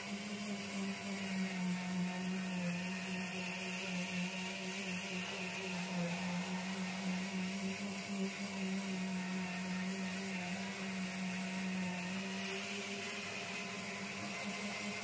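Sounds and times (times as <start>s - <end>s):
orbital sander running: 0.0s - 15.0s.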